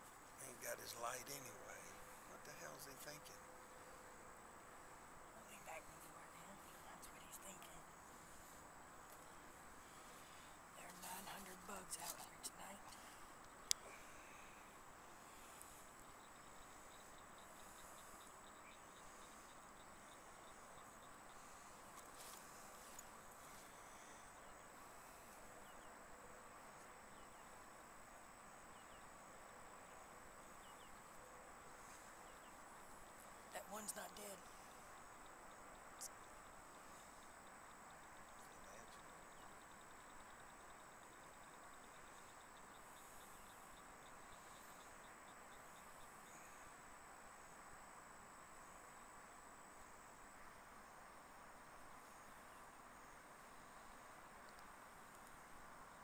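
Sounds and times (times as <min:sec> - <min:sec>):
insect chirring: 0:00.0 - 0:56.0
low hiss: 0:00.0 - 0:56.0.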